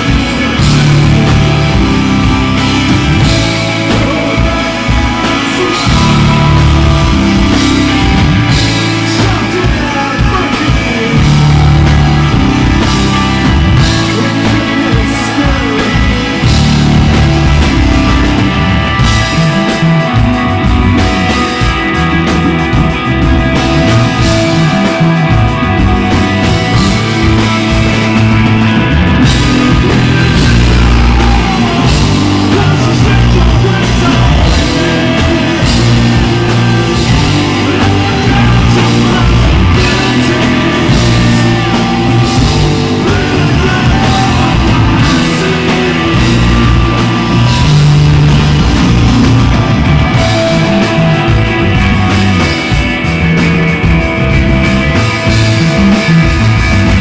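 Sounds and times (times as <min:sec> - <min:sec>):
loud rock music with singing: 0:00.0 - 0:57.0.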